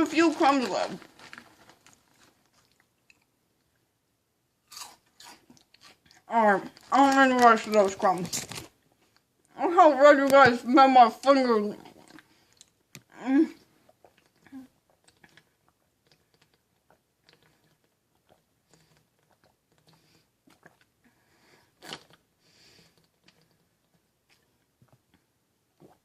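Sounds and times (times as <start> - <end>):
crunching and chewing: 0.1 - 3.7, 4.6 - 9.3, 11.8 - 13.1, 13.7 - 21.0, 21.6 - 26.0.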